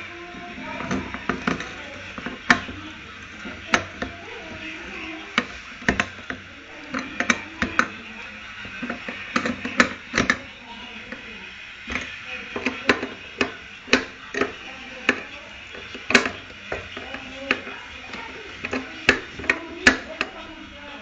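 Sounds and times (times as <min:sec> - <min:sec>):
metal parts and tools clicking: 0:00.7 - 0:11.3, 0:11.9 - 0:20.4.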